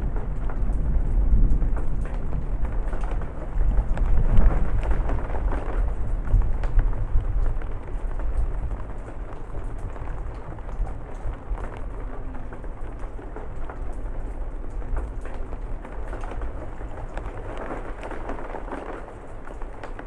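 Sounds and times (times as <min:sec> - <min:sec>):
distant thunder rumble: 0:00.0 - 0:20.0
rain on a porch roof: 0:00.0 - 0:20.0.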